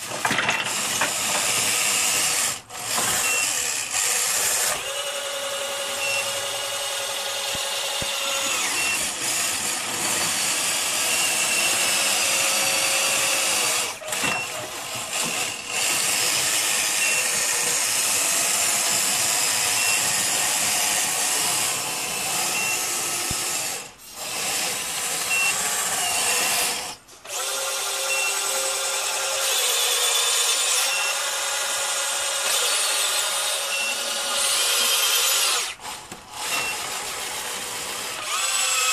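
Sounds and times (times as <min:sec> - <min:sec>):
toy bulldozer motors whining: 0:00.0 - 0:38.9.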